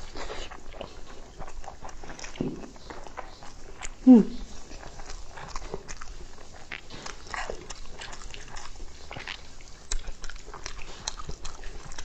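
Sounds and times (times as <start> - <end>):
chewing and mouth sounds: 0.0 - 12.0.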